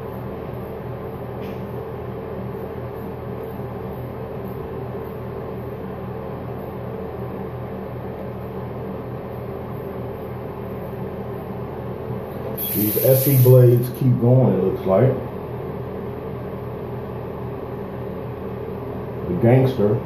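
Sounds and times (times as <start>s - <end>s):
low mechanical hum with pulsing: 0.0s - 20.0s.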